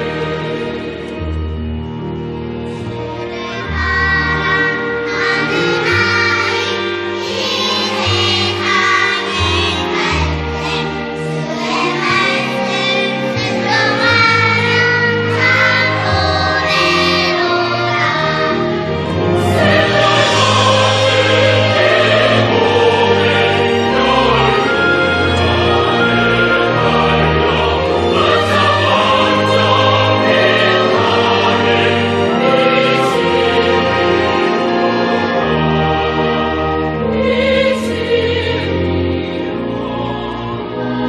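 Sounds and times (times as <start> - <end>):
choir singing a hymn: 0.0 - 1.8, 2.7 - 41.0.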